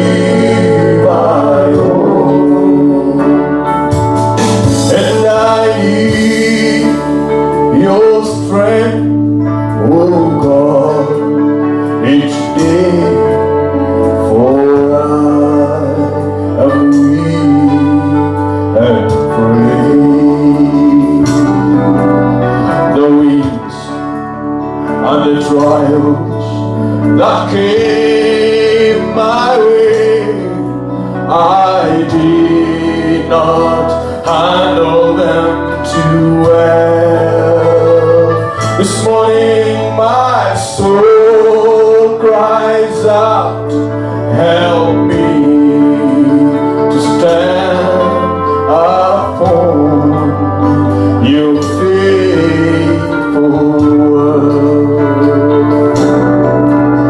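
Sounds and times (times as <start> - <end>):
guitars: 0.0 - 57.0
keyboard: 0.0 - 57.0
man singing gospel: 0.0 - 57.0.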